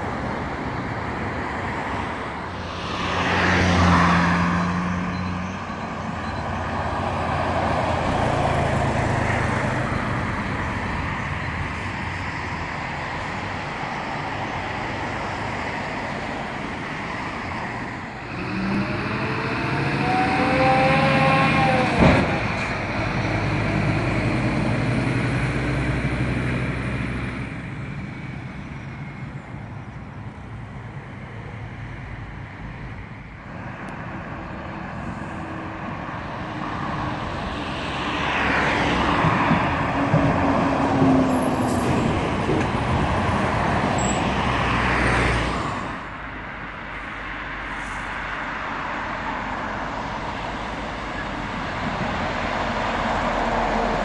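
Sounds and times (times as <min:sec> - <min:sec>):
diesel lorries passing: 0:00.0 - 0:54.0.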